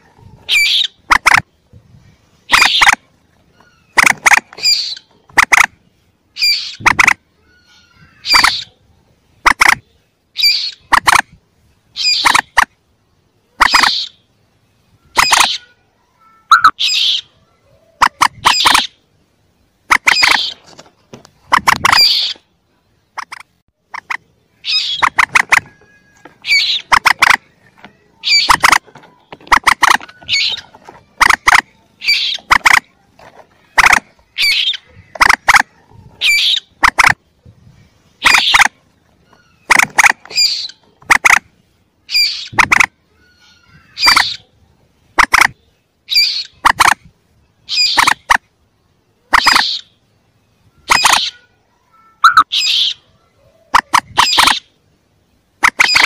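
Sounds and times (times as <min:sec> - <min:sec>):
moorhen chicks squawking: 0:00.0 - 0:01.6, 0:02.3 - 0:12.8, 0:13.5 - 0:14.4, 0:15.0 - 0:15.8, 0:16.5 - 0:19.1, 0:19.8 - 0:22.5, 0:23.1 - 0:48.6, 0:49.2 - 0:51.5, 0:52.2 - 0:56.0.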